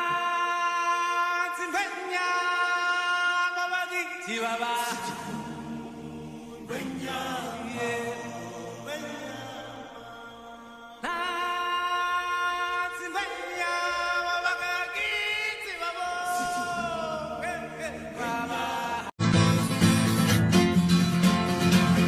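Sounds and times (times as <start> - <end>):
voice singing chant: 0.0 - 19.2.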